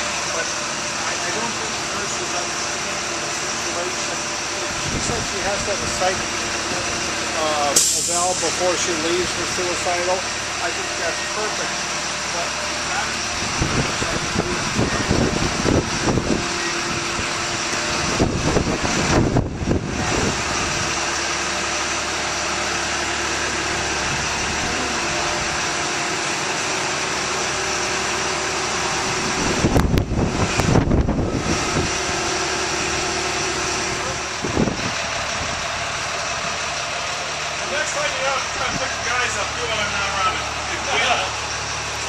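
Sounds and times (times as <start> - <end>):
biplane radial engine running: 0.0 - 42.0
low rumbling bursts: 0.0 - 42.0.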